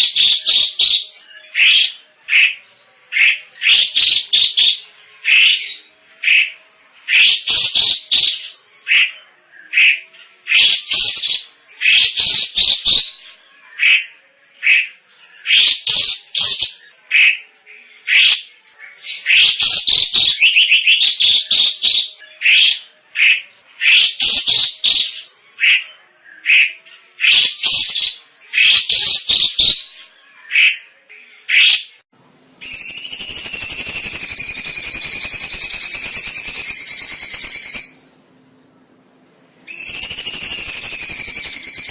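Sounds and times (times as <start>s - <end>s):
bird chirping calls: 0.0s - 38.2s, 39.7s - 41.9s.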